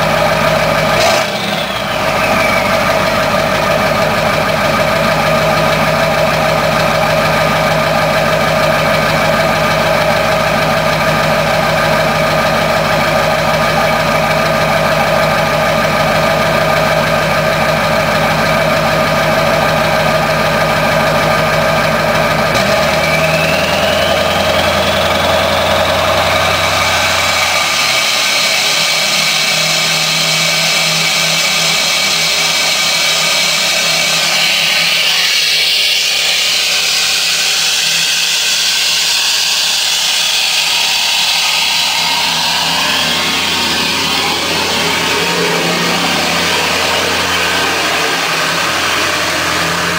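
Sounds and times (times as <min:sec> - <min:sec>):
diesel engine idling unevenly: 0:00.0 - 0:49.9.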